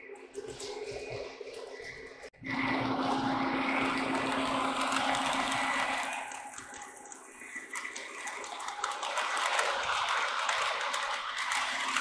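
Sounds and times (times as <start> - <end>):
toy train motor hum and rolling: 0.4 - 12.0.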